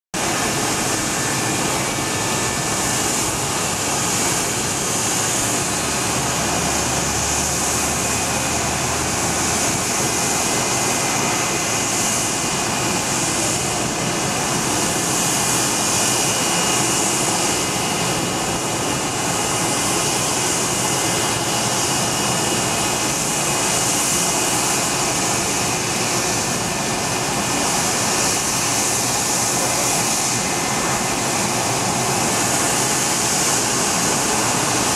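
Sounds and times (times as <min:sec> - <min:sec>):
jet engines running steadily: 0:00.2 - 0:34.9.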